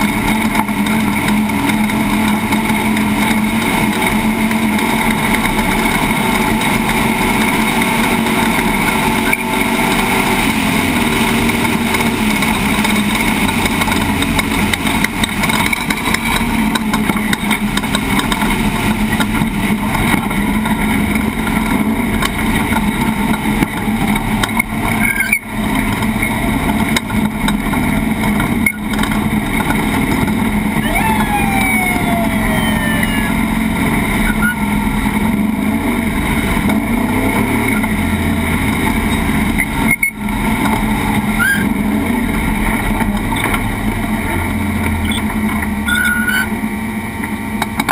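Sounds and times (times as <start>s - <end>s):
road and wind noise: 0.0s - 47.9s
truck engine running hard: 0.0s - 47.9s.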